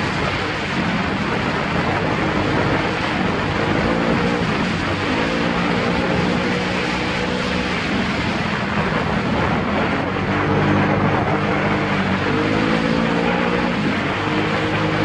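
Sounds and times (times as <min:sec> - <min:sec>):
atv engine revving: 0:00.0 - 0:15.0
steady rushing noise: 0:00.0 - 0:15.0.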